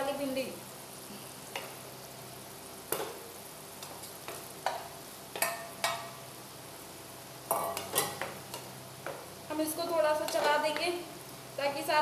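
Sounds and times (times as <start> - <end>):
spices sizzling in a frying pan: 0.0 - 12.0.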